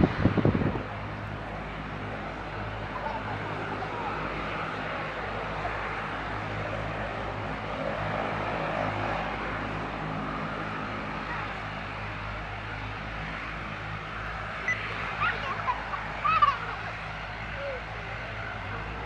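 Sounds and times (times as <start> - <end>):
aircraft engines running: 0.0 - 19.0.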